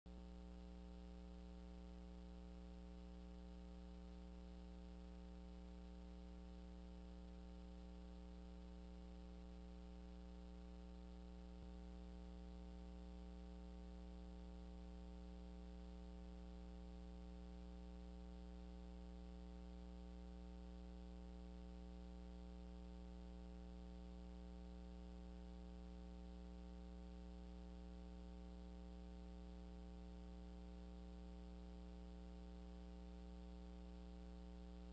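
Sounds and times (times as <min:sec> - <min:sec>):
faint electrical mains hum: 0:00.1 - 0:34.9.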